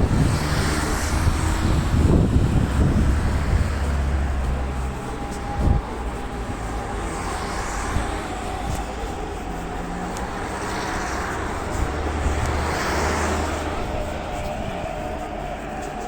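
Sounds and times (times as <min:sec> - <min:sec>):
road traffic rumble: 0:00.0 - 0:16.0
vehicle passing by: 0:00.0 - 0:16.0.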